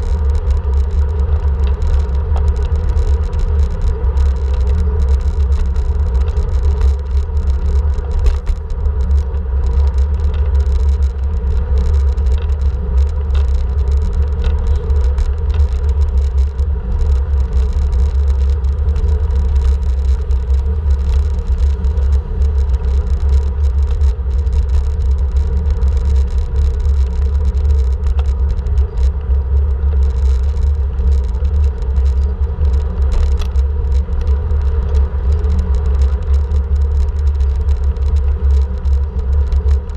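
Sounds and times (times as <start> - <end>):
bike riding rumble on road: 0.0 - 39.9
road and vehicle noise: 0.0 - 39.9.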